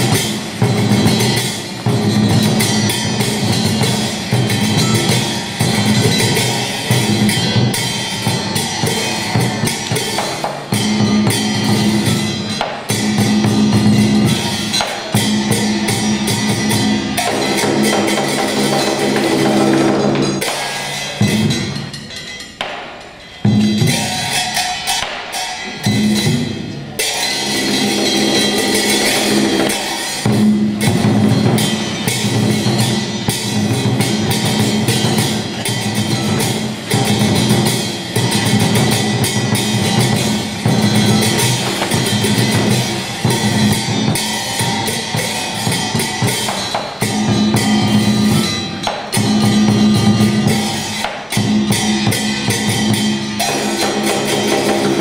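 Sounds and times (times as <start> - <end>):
drums beating rapidly: 0.0 - 55.0.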